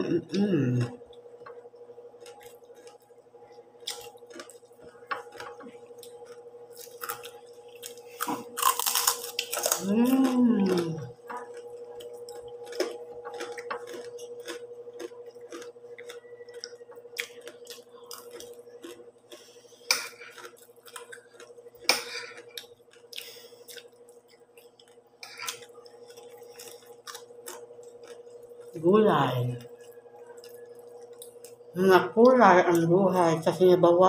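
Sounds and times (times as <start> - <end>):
steady background hum: 0.0 - 34.0
chewing crunchy pork rind: 0.2 - 33.6.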